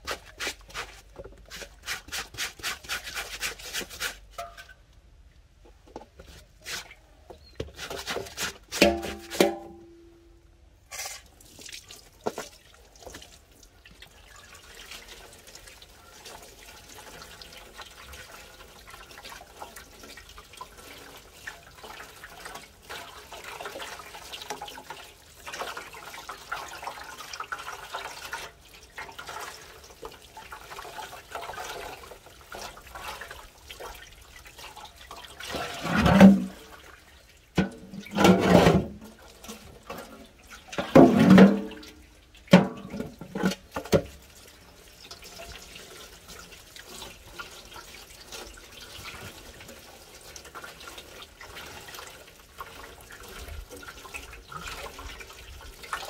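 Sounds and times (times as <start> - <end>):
water running and splashing: 10.9 - 56.0.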